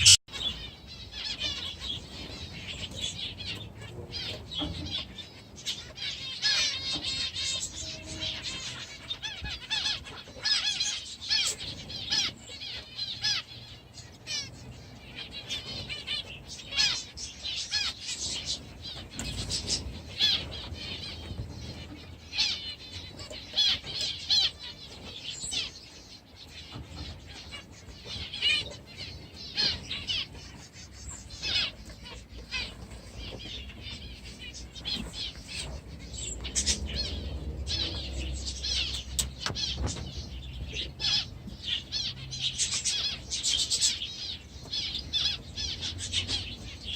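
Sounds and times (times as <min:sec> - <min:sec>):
budgies chirping and squawking: 0:00.0 - 0:46.9.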